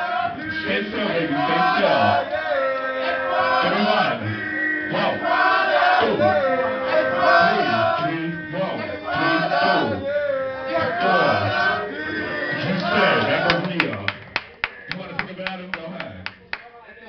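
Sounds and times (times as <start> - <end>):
man singing over a beat: 0.0 - 13.9
crowd noise: 0.0 - 17.0.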